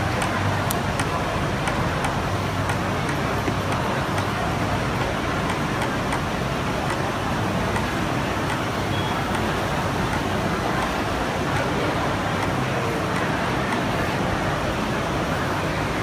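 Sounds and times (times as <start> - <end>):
template cutter machine running: 0.0 - 16.0.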